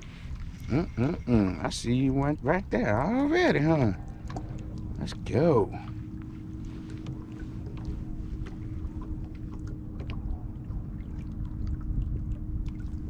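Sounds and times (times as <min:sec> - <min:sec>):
boat motor humming: 0:00.0 - 0:13.0
low rumble: 0:00.0 - 0:13.0.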